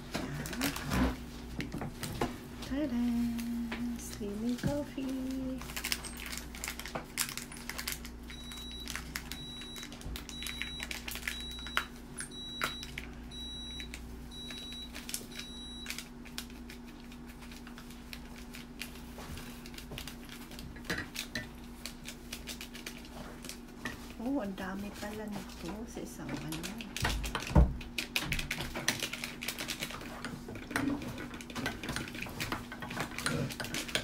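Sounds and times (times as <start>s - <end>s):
foil sachet crinkling: 0.0s - 1.4s, 2.8s - 11.9s, 12.8s - 34.0s
steady low hum: 0.0s - 34.0s.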